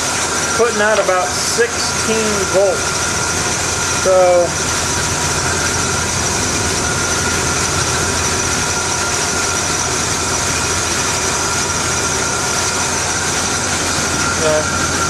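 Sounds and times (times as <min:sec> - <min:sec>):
high-pitched whine: 0:00.0 - 0:15.0
truck engine idling: 0:00.0 - 0:15.0.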